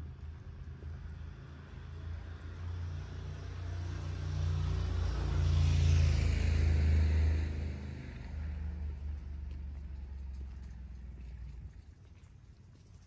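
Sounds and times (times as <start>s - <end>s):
car driving past: 0.0s - 11.4s.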